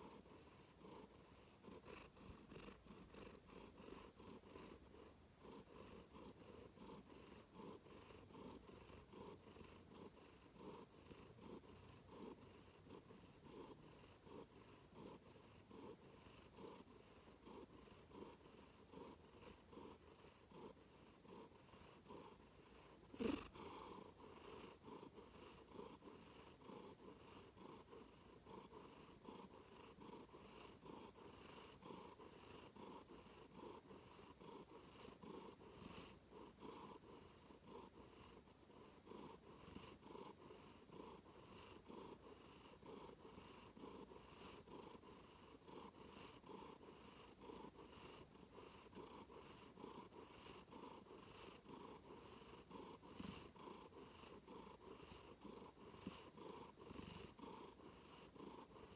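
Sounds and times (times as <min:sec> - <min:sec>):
cat purring: 0:00.0 - 0:58.9.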